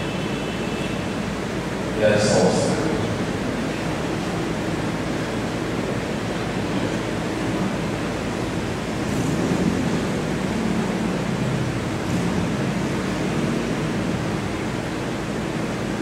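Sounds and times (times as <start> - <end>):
rushing hiss of room noise: 0.0 - 16.0.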